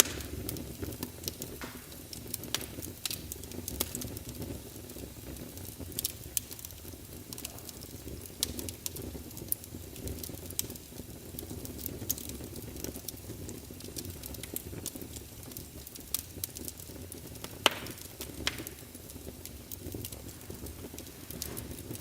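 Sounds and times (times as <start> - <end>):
logs crackling in a fireplace: 0.0 - 22.0.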